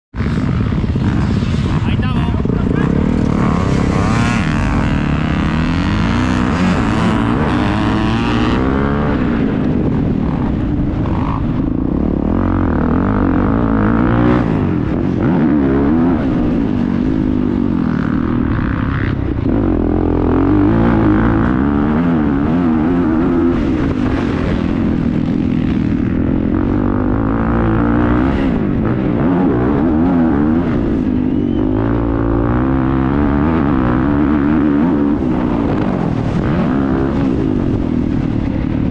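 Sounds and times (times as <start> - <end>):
motocross bike engine revving: 0.2 - 38.9.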